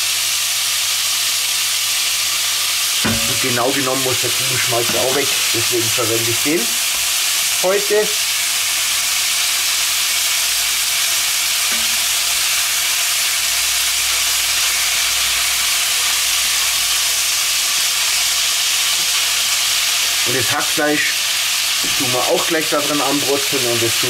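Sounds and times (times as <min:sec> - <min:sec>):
meat sizzling in a pot: 0:00.0 - 0:24.0.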